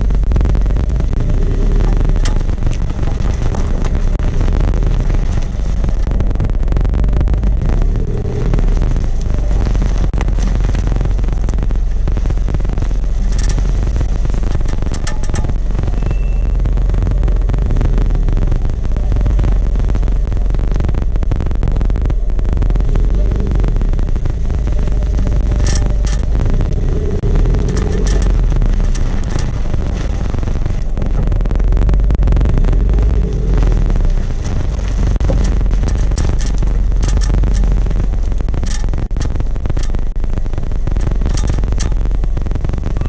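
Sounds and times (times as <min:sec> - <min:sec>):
suspension clicks and knocks: 0:00.0 - 0:20.0, 0:23.2 - 0:30.1, 0:30.7 - 0:40.1, 0:40.9 - 0:42.0
car road rumble: 0:00.0 - 0:43.0.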